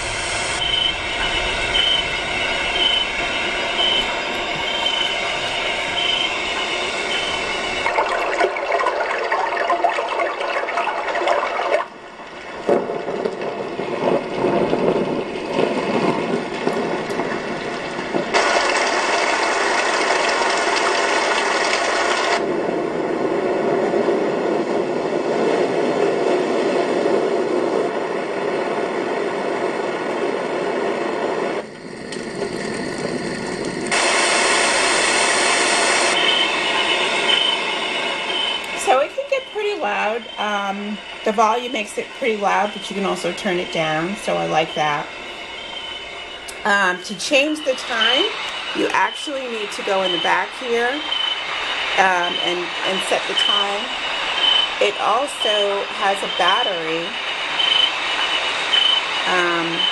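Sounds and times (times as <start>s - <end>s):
rushing white noise from speaker: 0.0s - 59.9s.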